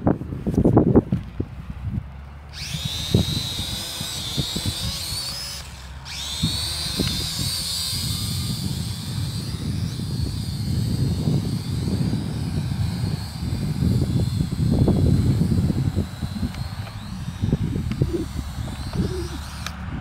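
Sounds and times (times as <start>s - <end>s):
toy drone motors whining: 2.3s - 20.0s.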